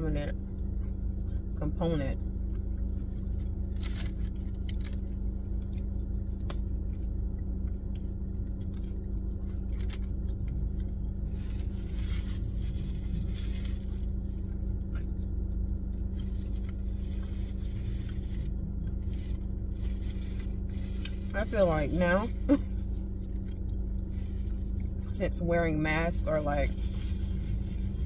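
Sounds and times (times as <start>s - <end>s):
car hum inside cabin: 0.0s - 28.0s.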